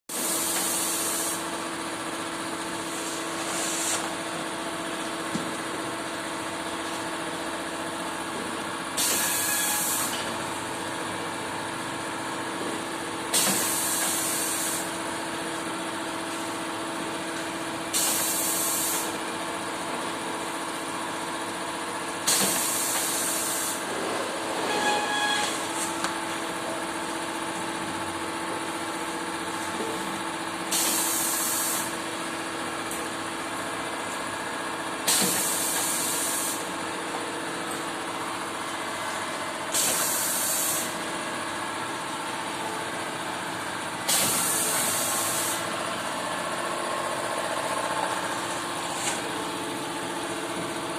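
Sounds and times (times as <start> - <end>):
screen-printing machine humming: 0.1 - 50.9.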